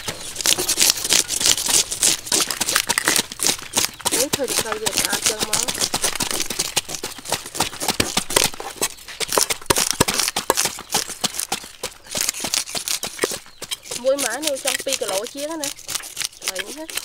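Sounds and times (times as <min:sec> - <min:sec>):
cleaver scraping fish scales: 0:00.0 - 0:17.0.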